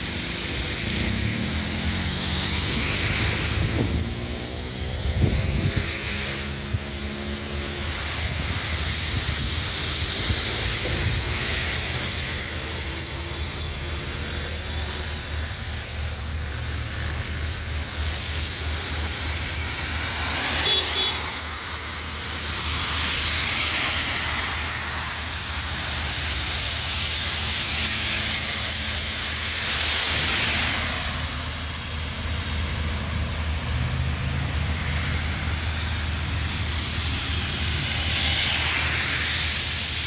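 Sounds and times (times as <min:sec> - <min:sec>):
rain hissing: 0:00.0 - 0:40.0
tyres hissing on wet road: 0:00.0 - 0:40.0.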